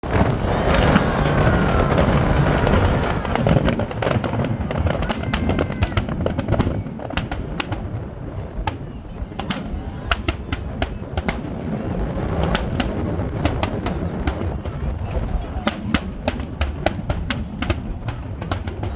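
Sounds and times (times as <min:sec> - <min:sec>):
fireworks popping and banging: 0:00.0 - 0:18.9.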